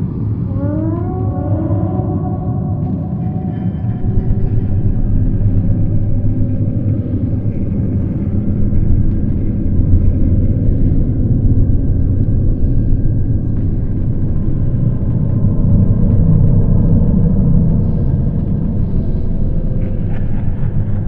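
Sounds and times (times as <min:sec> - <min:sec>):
low horror ambience rumble: 0:00.0 - 0:21.0.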